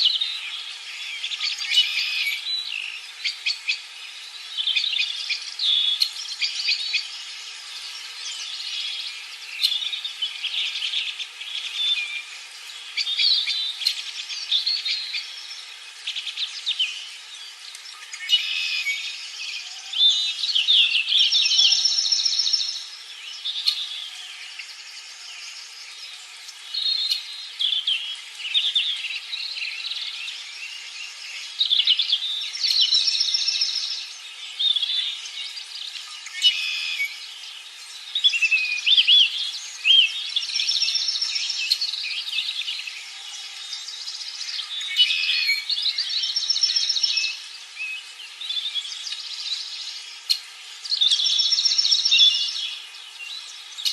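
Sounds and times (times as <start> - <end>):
songbirds singing: 0.0 - 53.9.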